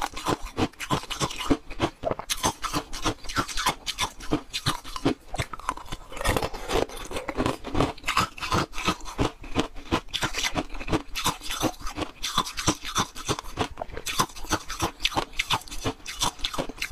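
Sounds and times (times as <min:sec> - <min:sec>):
chewing crunchy ice: 0:00.0 - 0:16.9.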